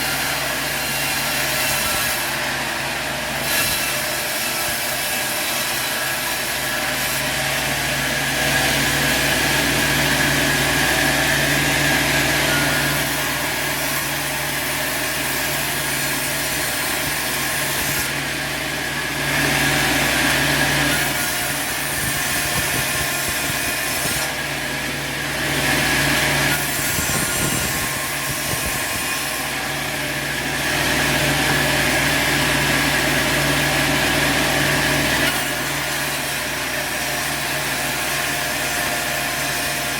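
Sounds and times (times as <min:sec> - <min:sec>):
saw blade cutting wood: 0:00.0 - 0:39.9
sawmill running: 0:00.0 - 0:39.9.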